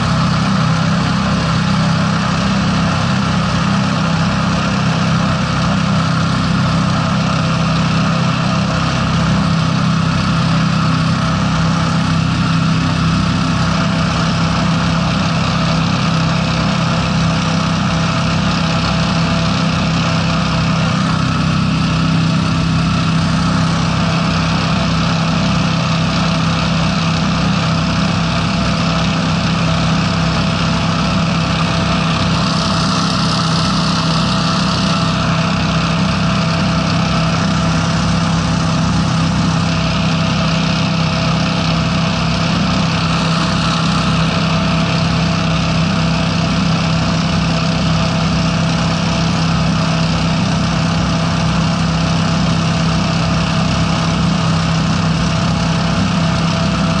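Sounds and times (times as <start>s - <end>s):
hovercraft engines droning: 0.0s - 57.0s.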